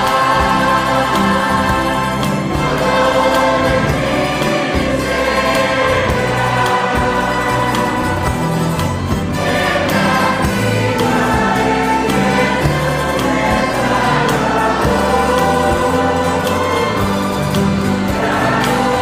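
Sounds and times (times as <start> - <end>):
accordion and string band: 0.0 - 19.0
choir and congregation singing: 0.0 - 19.0
drum kit beat: 0.0 - 19.0.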